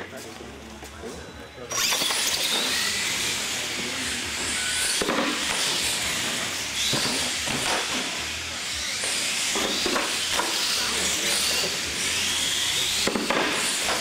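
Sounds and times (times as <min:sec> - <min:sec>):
toy truck motors whining: 0:01.4 - 0:14.0
toy trucks knocking and clattering: 0:01.7 - 0:03.5, 0:04.3 - 0:14.0.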